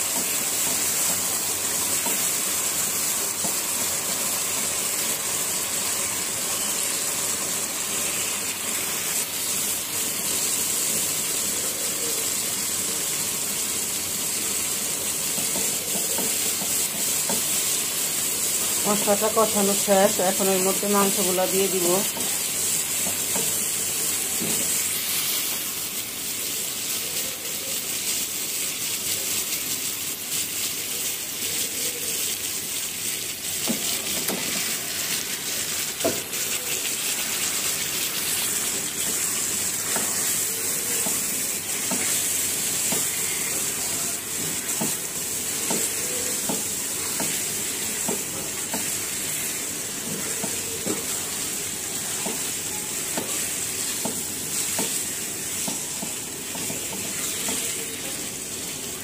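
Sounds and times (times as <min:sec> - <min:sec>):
chicken sizzling in a pan: 0:00.0 - 0:59.0.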